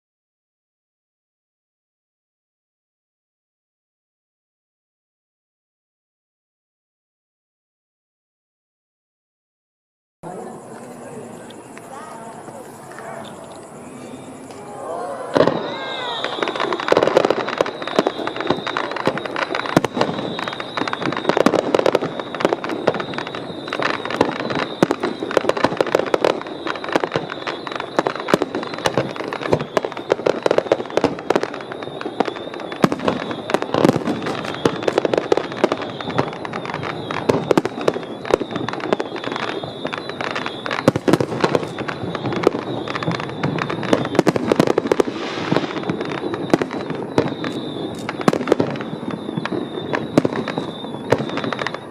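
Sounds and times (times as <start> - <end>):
fireworks bangs and crackles: 10.2 - 51.9.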